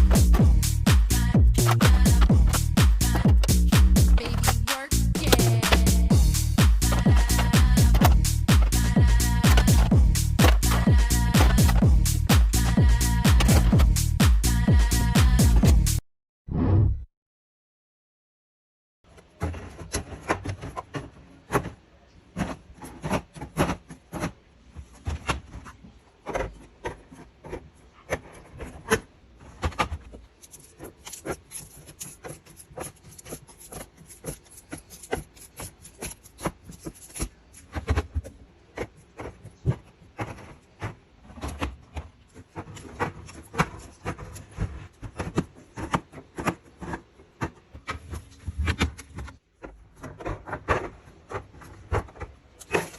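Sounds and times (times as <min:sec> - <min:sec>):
packaging rubbing and scraping: 0:01.5 - 0:14.1, 0:19.2 - 0:52.9.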